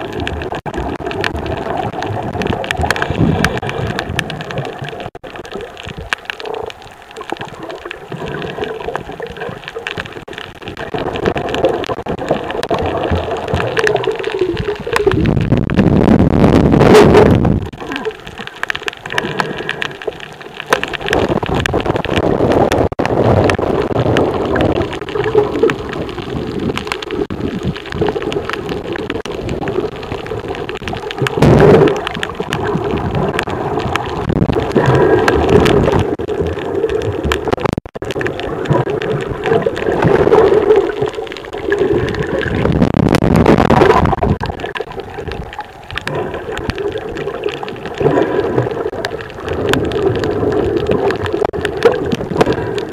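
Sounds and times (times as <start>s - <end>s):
muffled underwater water rushing: 0.0s - 52.9s.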